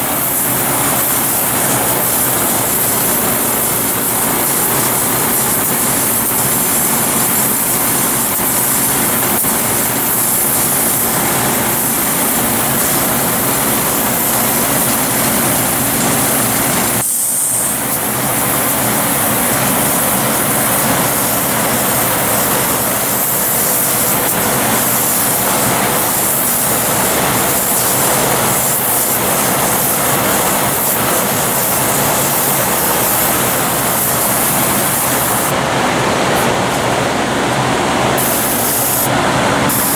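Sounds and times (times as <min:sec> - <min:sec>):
airbrush air hissing: 0:00.0 - 0:35.6, 0:38.1 - 0:39.9.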